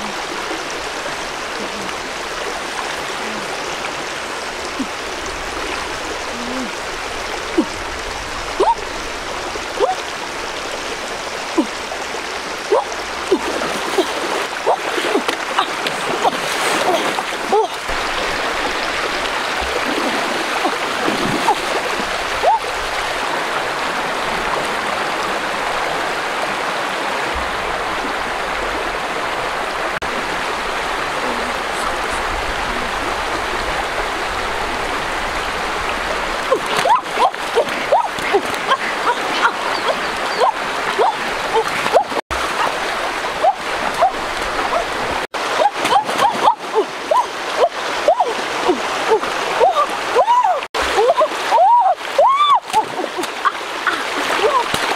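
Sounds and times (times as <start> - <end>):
feet wading through water: 0.0 - 26.3, 30.0 - 54.9
river running over rocks: 0.0 - 54.9.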